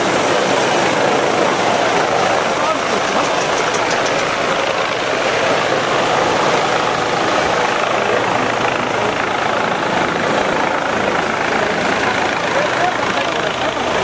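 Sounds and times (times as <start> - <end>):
helicopter rotors and turbine: 0.0 - 14.0.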